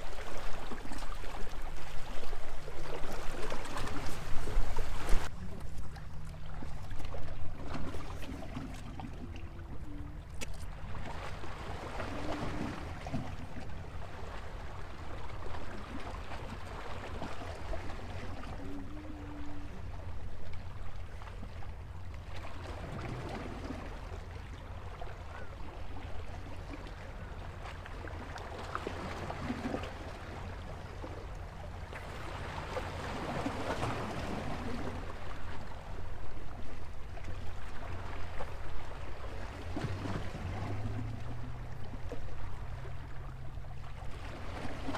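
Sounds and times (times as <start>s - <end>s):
waves lapping against a stone wall: 0.0s - 44.9s.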